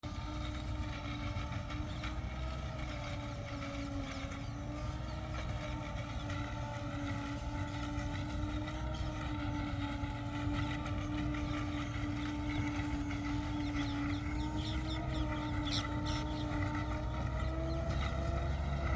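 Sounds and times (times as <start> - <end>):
harvester mechanical hum: 0.0 - 18.9
tractor engine low rumble: 0.0 - 18.9.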